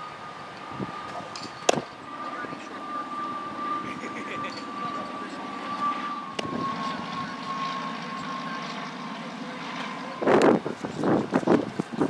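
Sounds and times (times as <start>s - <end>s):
engine drone with whine: 0.0s - 12.0s.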